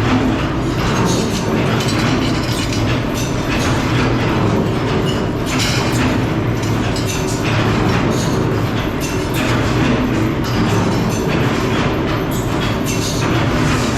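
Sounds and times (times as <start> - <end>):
machinery clatter: 0.0 - 13.9
running machinery hum: 0.0 - 13.9.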